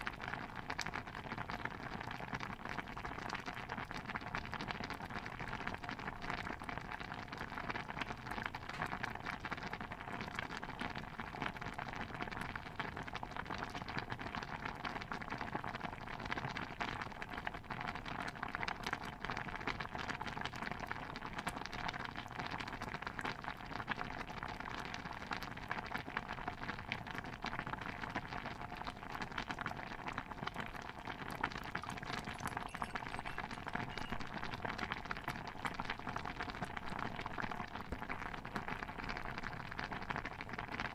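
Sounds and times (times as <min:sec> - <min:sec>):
stew pot bubbling: 0:00.0 - 0:40.9.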